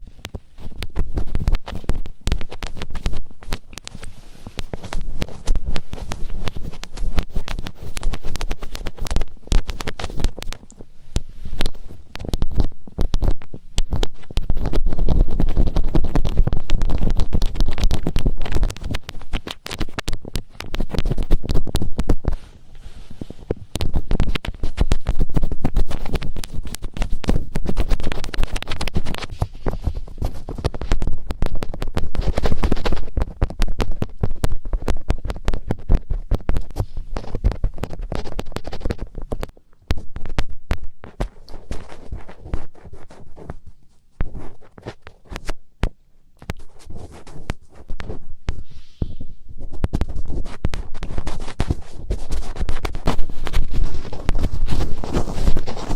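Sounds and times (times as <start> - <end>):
fingertips rubbing on microphone: 0.0 - 45.6, 46.4 - 55.9.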